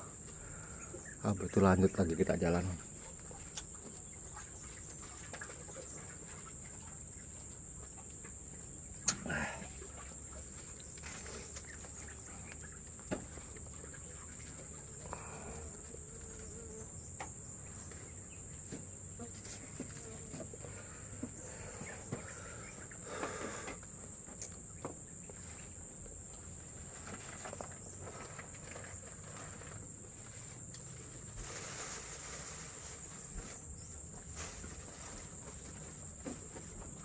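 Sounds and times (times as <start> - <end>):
insect chorus droning: 0.0 - 37.0.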